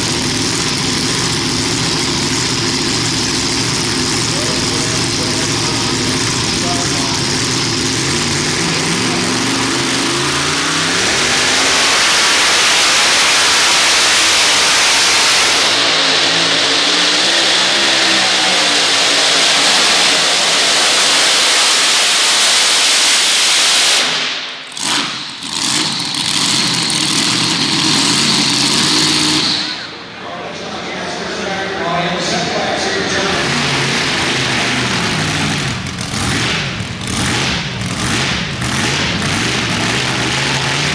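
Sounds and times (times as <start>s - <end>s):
tractor engine at full throttle: 0.0s - 30.2s, 32.2s - 40.9s.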